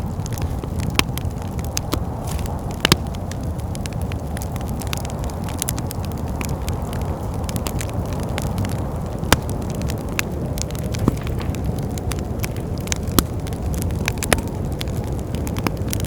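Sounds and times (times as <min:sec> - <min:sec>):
low rumble: 0:00.0 - 0:15.3
wood fire crackling: 0:00.0 - 0:16.0.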